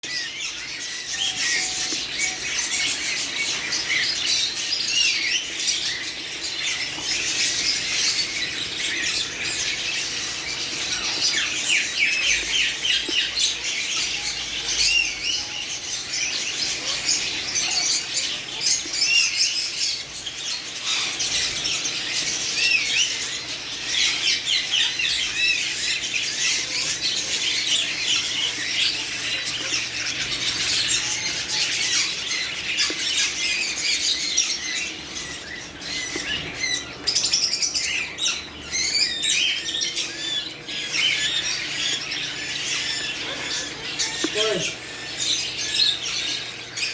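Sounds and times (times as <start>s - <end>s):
small birds chirping and squawking: 0.0s - 46.9s.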